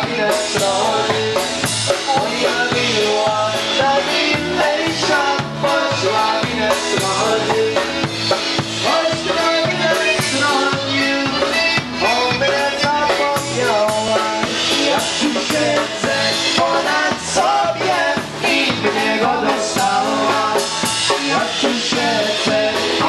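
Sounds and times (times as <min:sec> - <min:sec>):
polka band playing: 0:00.0 - 0:23.0.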